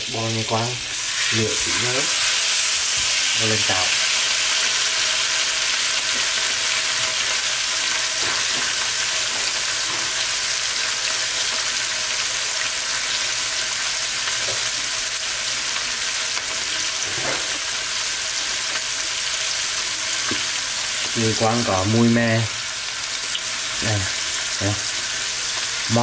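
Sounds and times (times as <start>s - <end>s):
steak sizzling in a frying pan: 0.0s - 26.0s.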